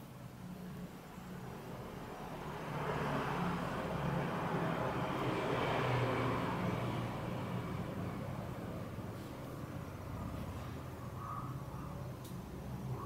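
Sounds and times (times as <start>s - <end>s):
vehicle passing by: 1.1s - 13.0s.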